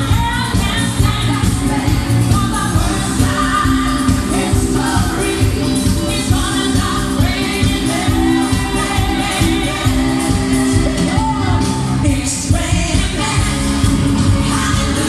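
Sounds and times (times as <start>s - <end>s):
disco-pop music with steady beat: 0.0s - 15.0s
person singing: 0.0s - 15.0s.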